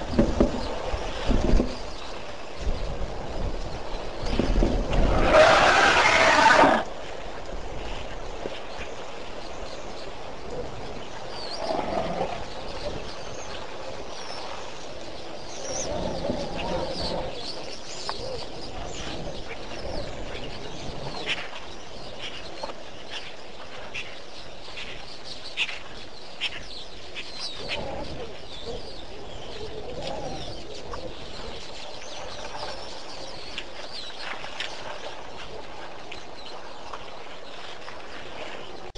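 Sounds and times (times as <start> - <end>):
birds chirping: 0.0 - 7.0, 8.1 - 38.9.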